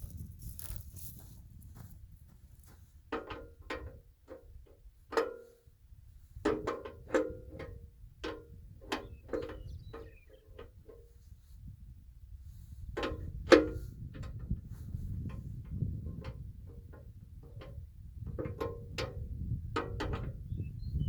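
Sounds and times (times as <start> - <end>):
wind noise rumble: 0.0 - 4.7, 5.9 - 21.0.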